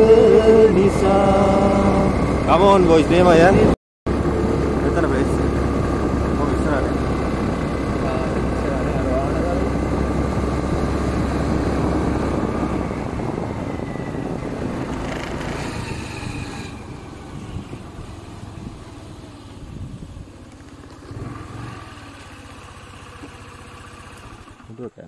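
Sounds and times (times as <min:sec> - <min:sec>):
road noise: 0:00.0 - 0:25.0
vehicle engine: 0:00.0 - 0:25.0.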